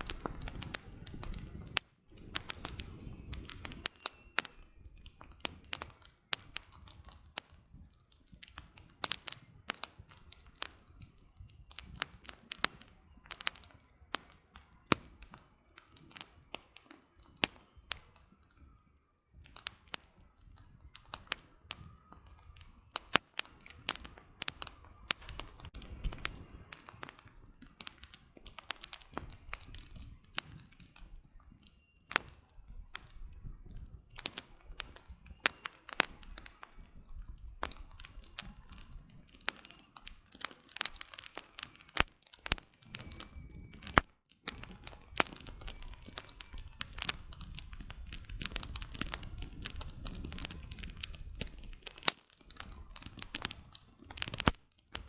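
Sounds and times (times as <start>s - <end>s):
campfire crackling: 0.0s - 55.0s
firewood popping and snapping: 0.0s - 55.0s.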